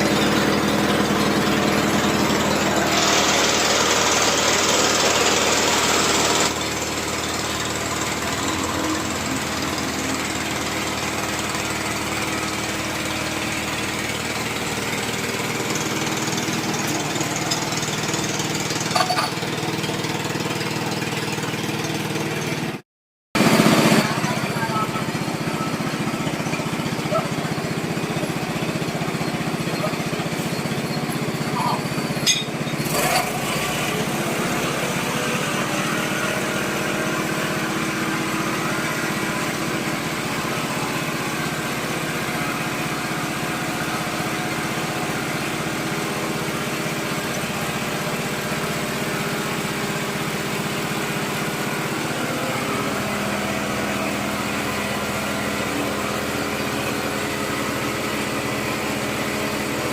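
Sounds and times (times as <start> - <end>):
small engine running: 0.0 - 22.8, 23.4 - 59.9.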